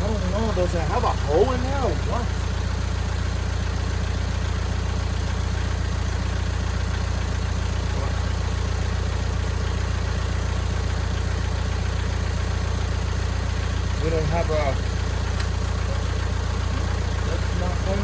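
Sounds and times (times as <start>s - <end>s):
engine-like machine droning: 0.0s - 18.0s.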